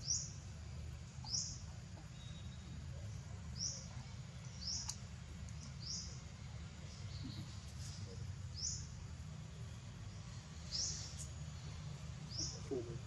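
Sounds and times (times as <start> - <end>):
small bird chirping: 0.0 - 0.4, 1.2 - 13.0.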